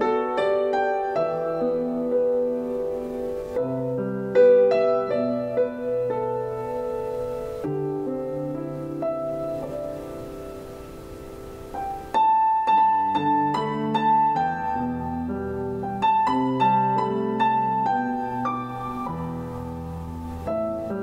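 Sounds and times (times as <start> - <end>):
soft held chords from speaker: 0.0 - 21.0.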